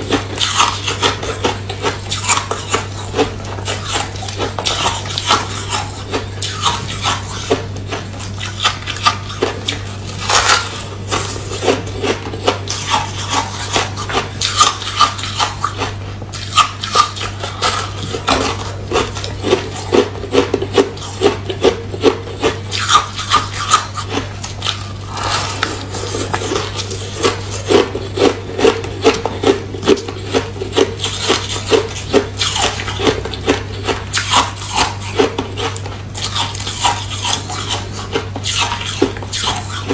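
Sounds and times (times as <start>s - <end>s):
ice crunching while chewed: 0.0s - 39.9s
steady low hum: 0.0s - 39.9s.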